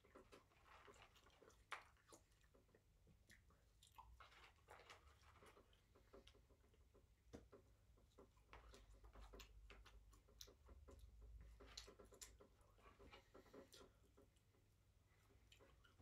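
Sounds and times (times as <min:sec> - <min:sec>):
close chewing: 0:00.0 - 0:06.8, 0:08.0 - 0:16.0.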